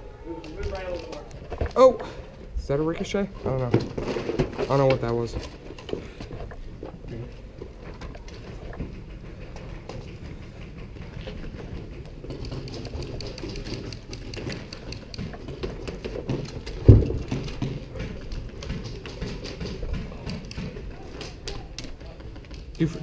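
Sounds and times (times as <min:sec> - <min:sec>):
footsteps: 0:00.0 - 0:23.0
gear rattling clicks and knocks: 0:03.8 - 0:23.0.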